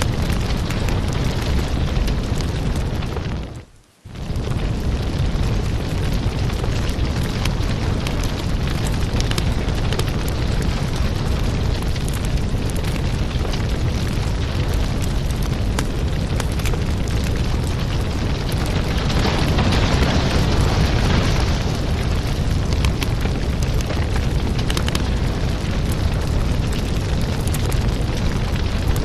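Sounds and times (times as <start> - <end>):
firewood burning rumble: 0.0 - 29.0
wood crackling and popping: 0.0 - 29.0.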